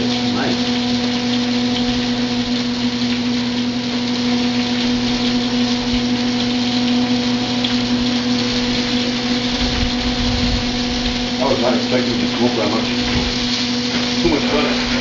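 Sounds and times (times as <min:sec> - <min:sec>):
exhaust fan humming: 0:00.0 - 0:15.0
meat sizzling in a pan: 0:00.0 - 0:15.0.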